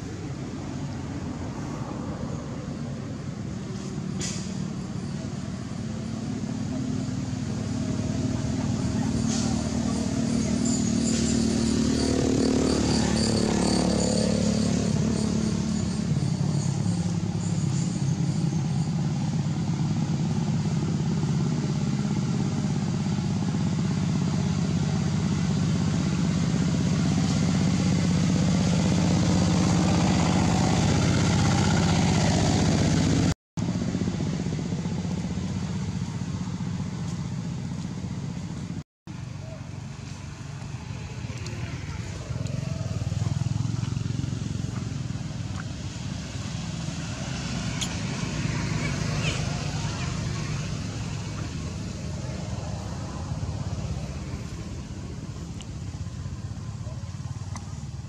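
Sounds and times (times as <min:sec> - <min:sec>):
vehicle engine running: 0:02.6 - 0:58.0.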